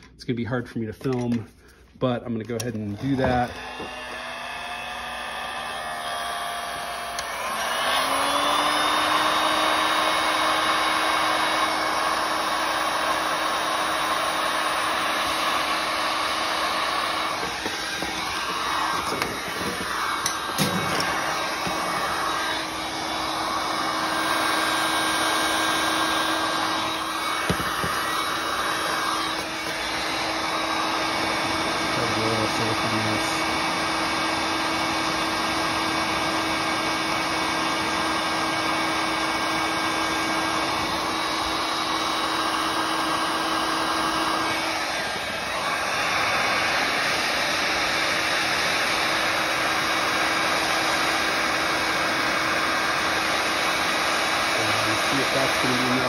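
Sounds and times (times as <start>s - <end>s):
heat gun running: 2.4s - 56.0s.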